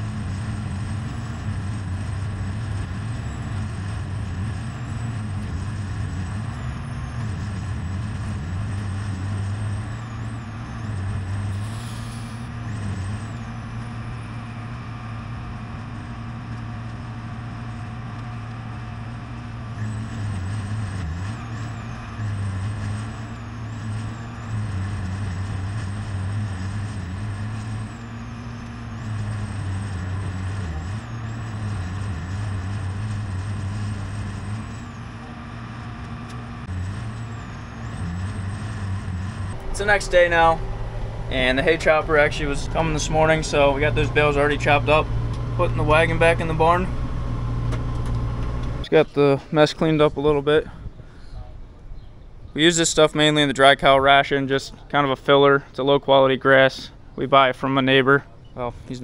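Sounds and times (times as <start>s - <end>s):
hay chopper grinding: 0.0s - 50.5s
high whine: 0.0s - 50.6s
diesel engine running: 0.0s - 59.0s.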